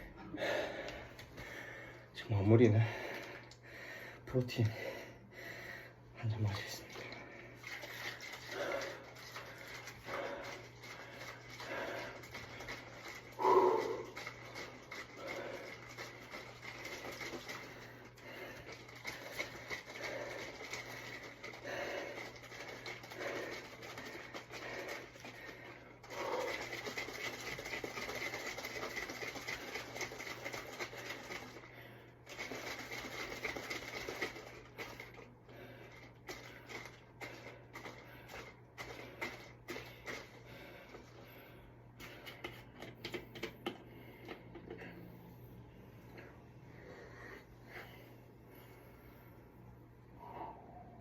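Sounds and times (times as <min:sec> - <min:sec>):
person panting: 0:00.0 - 0:02.1, 0:02.7 - 0:06.2, 0:06.9 - 0:42.8.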